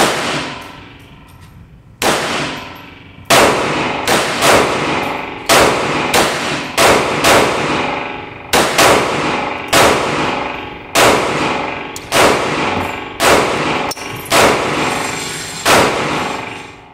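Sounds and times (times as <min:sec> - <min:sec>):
pistol gunshots with echo: 0:00.0 - 0:01.1, 0:02.0 - 0:16.8.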